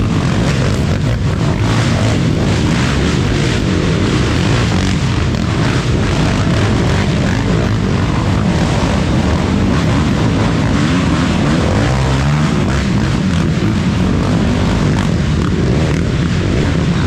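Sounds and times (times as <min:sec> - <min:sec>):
quad engine revving: 0:00.0 - 0:17.0.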